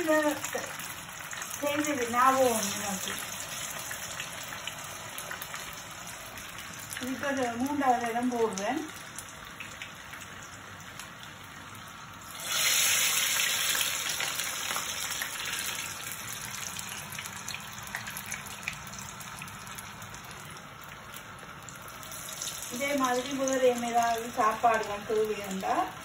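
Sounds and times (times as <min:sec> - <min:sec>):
food deep-frying in oil: 0:00.0 - 0:26.0.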